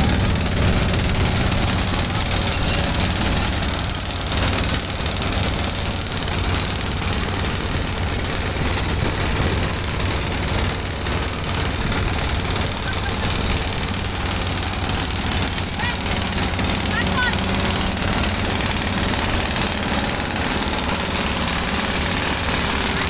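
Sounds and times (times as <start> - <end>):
motorboat engine droning: 0.0 - 23.0.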